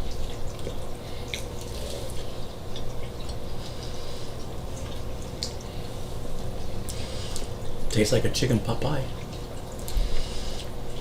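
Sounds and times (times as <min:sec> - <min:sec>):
person chewing food: 0:00.0 - 0:07.8, 0:09.7 - 0:11.0
steady low hum: 0:00.0 - 0:11.0.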